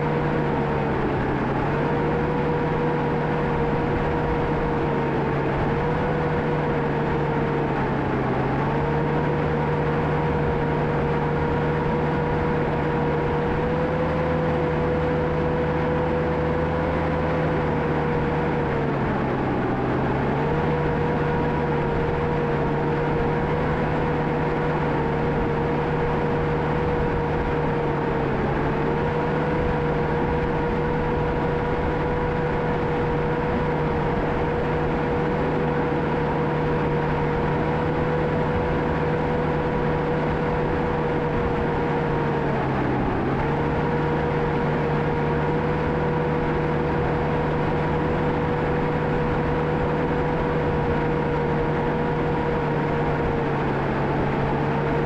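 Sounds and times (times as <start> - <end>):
diesel dozer engine running: 0.0 - 55.0.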